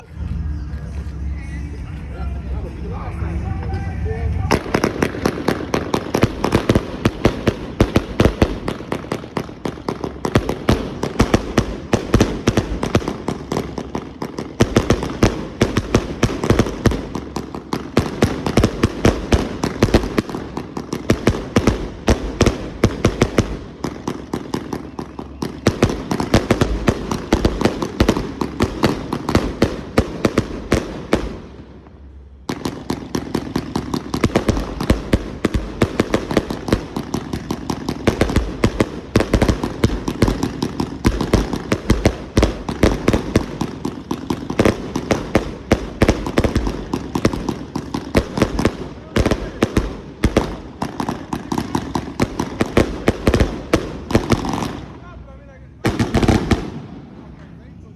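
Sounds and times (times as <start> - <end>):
firework cake volley: 0.0 - 57.9.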